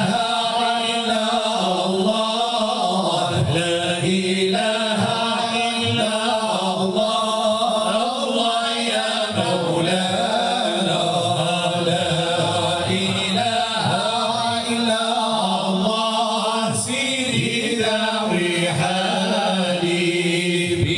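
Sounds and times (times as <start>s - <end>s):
men singing devotional chant: 0.0s - 20.9s.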